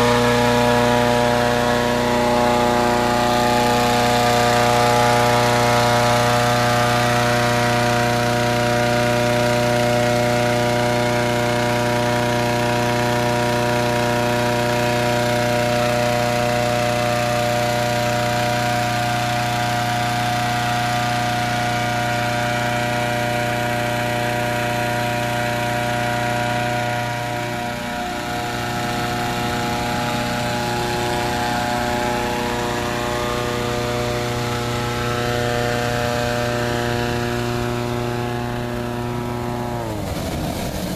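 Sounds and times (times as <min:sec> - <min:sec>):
petrol engine inflator fan running: 0:00.0 - 0:40.9.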